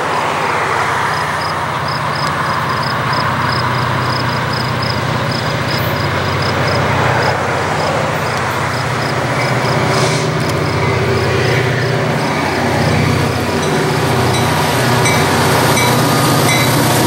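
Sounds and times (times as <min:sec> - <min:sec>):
diesel locomotive engines droning: 0:00.0 - 0:17.0.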